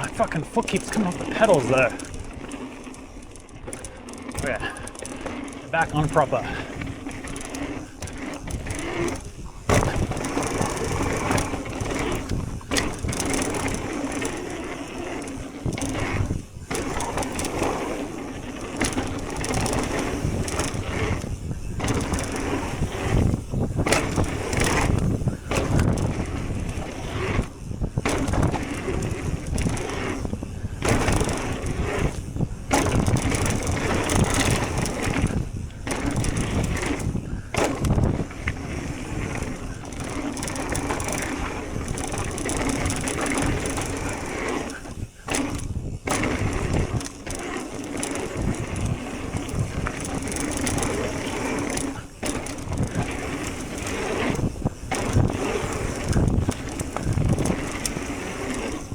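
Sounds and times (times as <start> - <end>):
bike rattling: 0.0 - 58.9
tyres roaring over dirt: 0.0 - 58.9.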